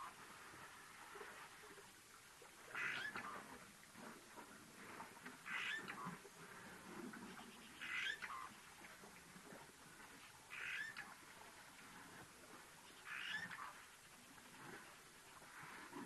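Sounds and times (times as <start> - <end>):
faint bush background: 0.0 - 16.0.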